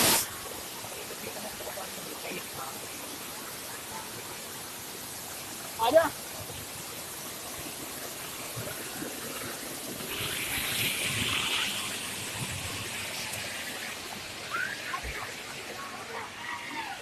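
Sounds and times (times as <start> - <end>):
waterfall rushing and splashing: 0.0 - 17.0.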